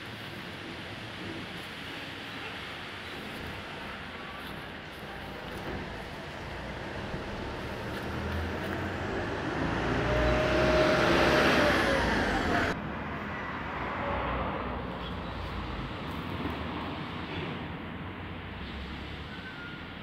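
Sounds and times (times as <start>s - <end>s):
road vehicle passing: 0.7s - 20.0s.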